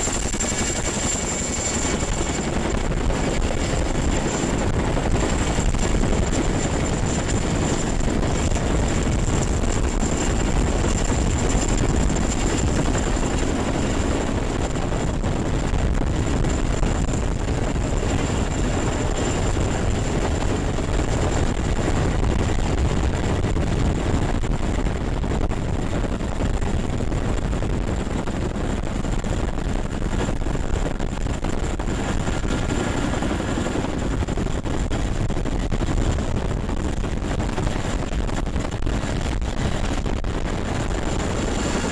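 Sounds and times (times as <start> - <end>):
helicopter rotor and engine: 0.0 - 41.9
high steady whine: 0.0 - 41.9.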